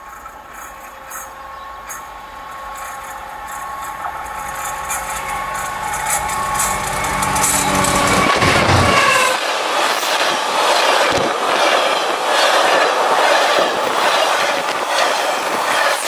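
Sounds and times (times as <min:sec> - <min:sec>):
freight train engine: 0:00.0 - 0:16.0
high tone of rails: 0:00.0 - 0:16.0.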